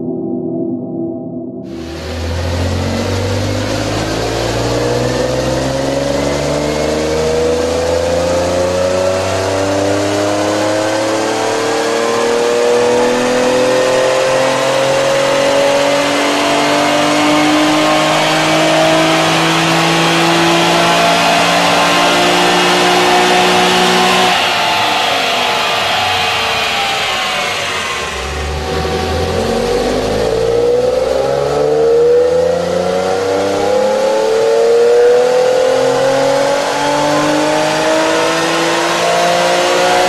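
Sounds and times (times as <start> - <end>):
car engine revving up: 1.6 - 40.0.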